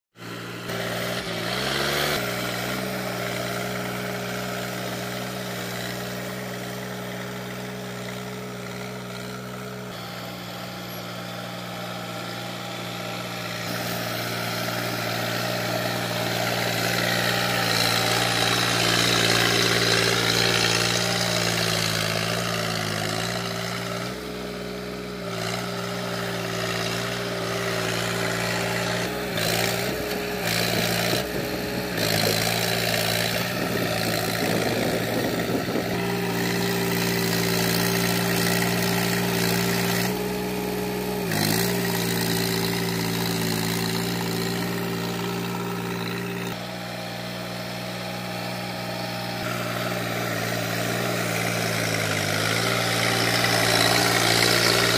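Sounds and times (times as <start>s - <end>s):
tractor diesel engine running: 0.2s - 54.9s.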